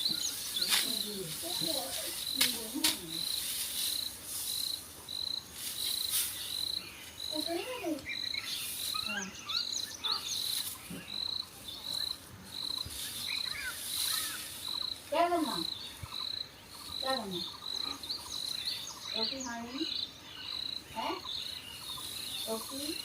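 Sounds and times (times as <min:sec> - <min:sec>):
birdlike chirps: 0:00.0 - 0:23.0
cricket chirping: 0:00.0 - 0:23.0.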